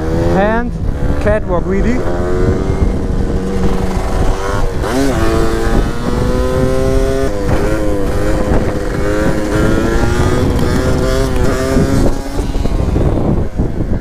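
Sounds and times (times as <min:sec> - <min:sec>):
two-stroke motorcycle engine revving: 0:00.0 - 0:14.0
wind noise on microphone: 0:00.0 - 0:14.0.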